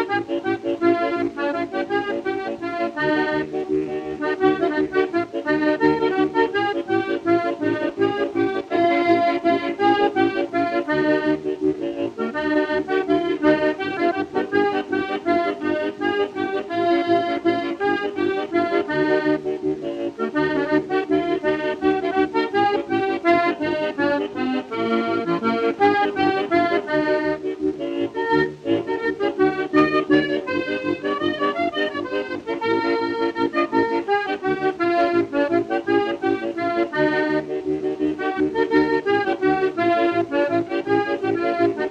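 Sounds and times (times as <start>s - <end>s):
lively accordion tune: 0.0s - 41.9s
rhythmic bass accompaniment: 0.0s - 41.9s.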